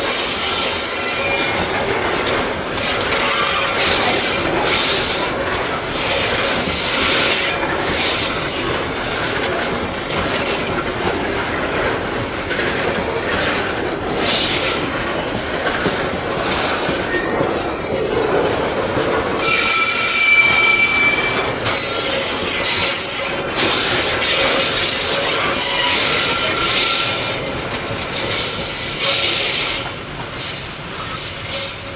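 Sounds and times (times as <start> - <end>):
clatter of train cars: 0.0 - 31.9
train wheels rumbling on rail: 0.0 - 31.9.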